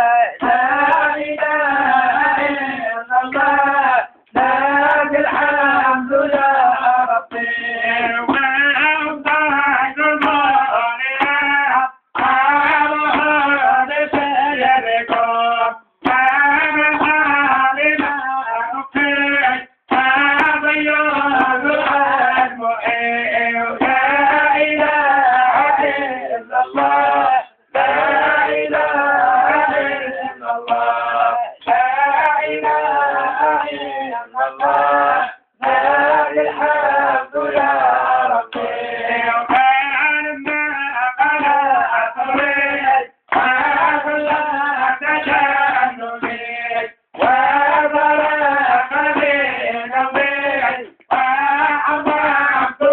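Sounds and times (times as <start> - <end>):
men singing: 0.0 - 52.9.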